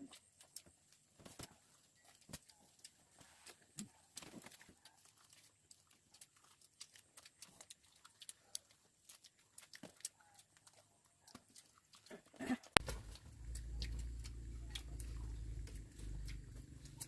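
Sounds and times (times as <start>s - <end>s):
faint clicking and crackling: 0.0s - 17.0s.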